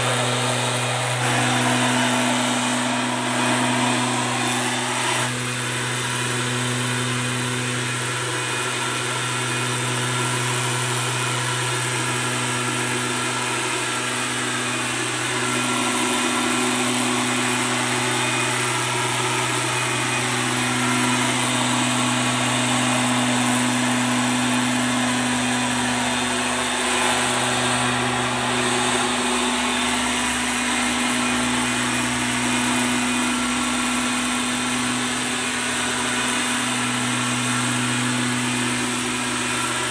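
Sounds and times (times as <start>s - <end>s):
leaf blower engine running: 0.0s - 39.9s.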